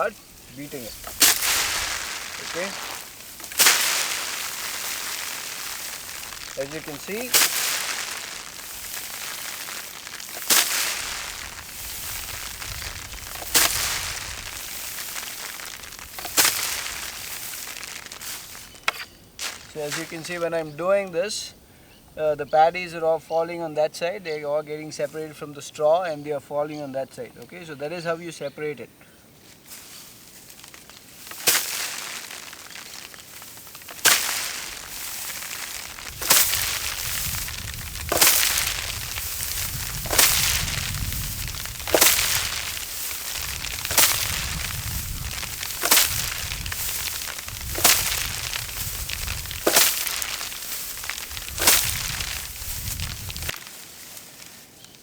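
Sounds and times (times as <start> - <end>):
rice plants slapping against table: 0.0 - 20.5, 29.7 - 53.8
straw rustling: 0.0 - 21.6, 29.3 - 55.0.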